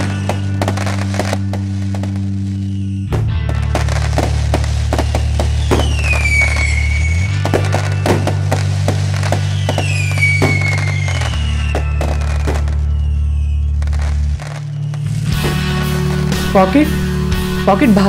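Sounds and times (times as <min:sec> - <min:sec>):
falling whistles: 0:00.0 - 0:16.2
background music with bass: 0:00.0 - 0:18.0
firecrackers banging: 0:00.0 - 0:18.0.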